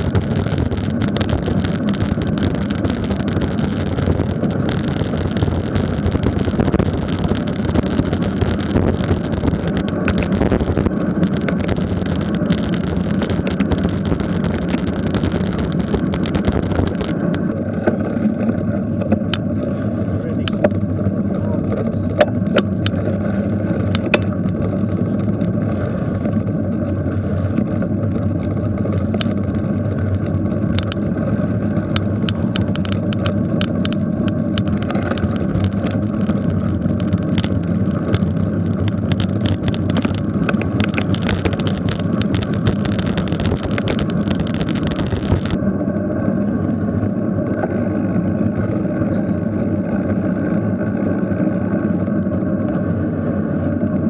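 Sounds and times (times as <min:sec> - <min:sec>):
faint clicks and rattles: 0:00.0 - 0:45.6
road noise: 0:00.0 - 0:54.0
wind rumble: 0:00.0 - 0:54.0.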